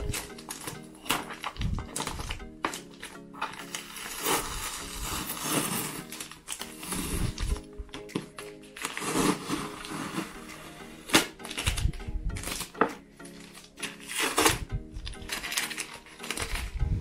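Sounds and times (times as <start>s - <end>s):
packing tape ripping: 0.0s - 12.8s, 13.4s - 16.8s
paper crinkling: 0.0s - 16.9s
background music: 0.0s - 17.0s.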